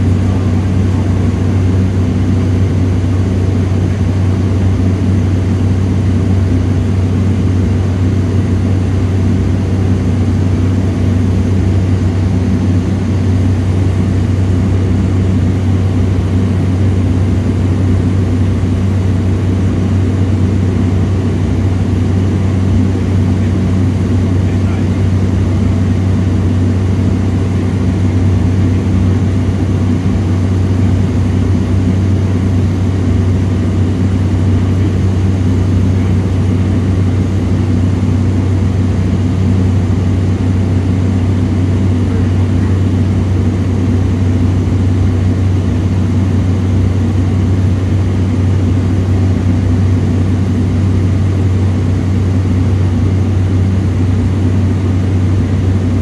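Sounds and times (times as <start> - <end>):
propeller engine drone in cabin: 0.0 - 56.0.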